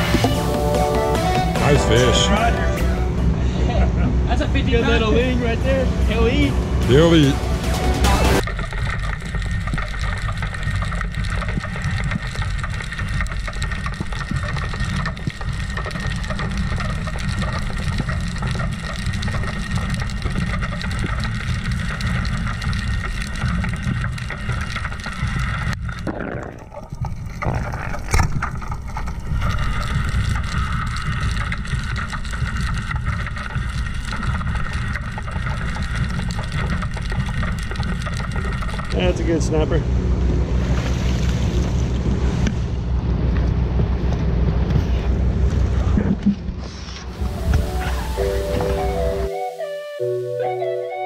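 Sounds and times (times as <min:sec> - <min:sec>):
underwater rumble of moving water: 0:01.7 - 0:49.3
underwater crackling and clicks: 0:08.3 - 0:49.3.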